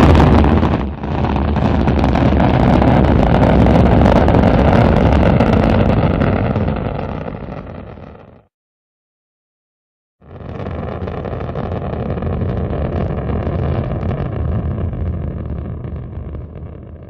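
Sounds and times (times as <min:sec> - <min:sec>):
rocket motor exhaust roar: 0:00.0 - 0:08.2, 0:10.3 - 0:17.0.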